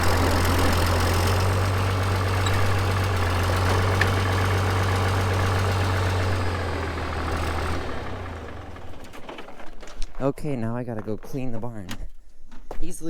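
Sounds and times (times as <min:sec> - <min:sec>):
engine droning: 0:00.0 - 0:11.2.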